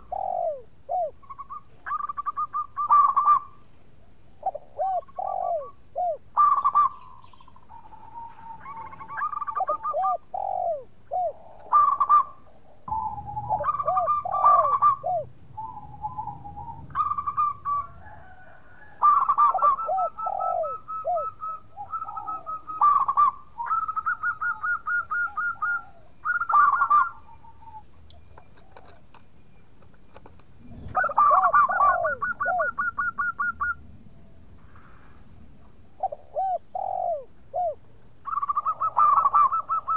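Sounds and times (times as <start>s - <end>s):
dove cooing: 0.0s - 3.6s, 4.4s - 29.2s, 30.6s - 33.9s, 36.0s - 39.9s.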